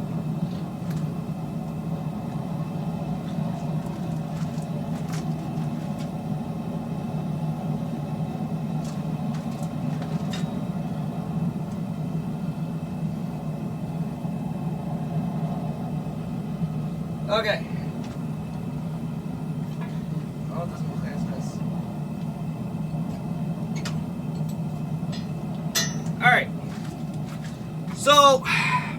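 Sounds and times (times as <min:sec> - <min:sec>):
forge droning: 0:00.0 - 0:28.9.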